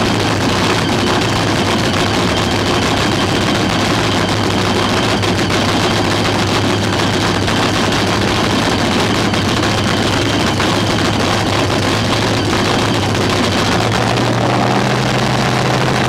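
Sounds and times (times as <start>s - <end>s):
race car engine idling: 0.0s - 16.0s.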